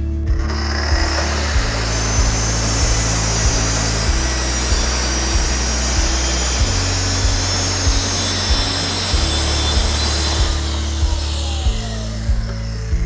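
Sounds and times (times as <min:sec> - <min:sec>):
background music with beat and bass: 0:00.0 - 0:13.0
track saw cutting: 0:00.2 - 0:13.0.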